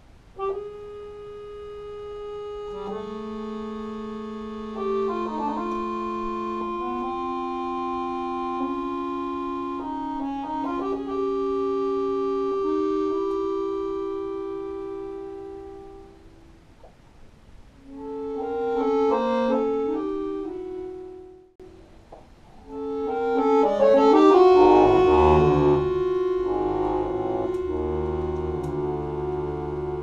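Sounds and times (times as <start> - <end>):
accordion held chords: 0.0 - 16.6, 17.8 - 21.8, 22.6 - 30.0.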